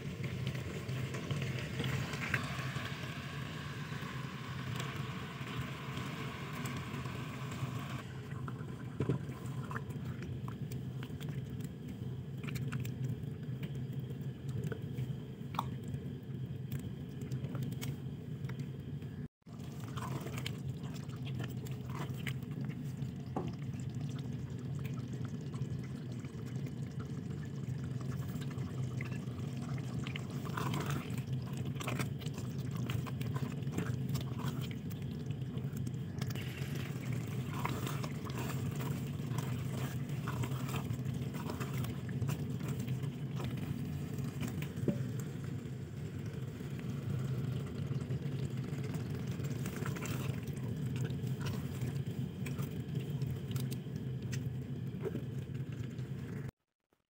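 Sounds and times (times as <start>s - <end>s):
small clicks and liquid sounds: 0.0s - 56.5s
steady low hum: 0.0s - 56.5s.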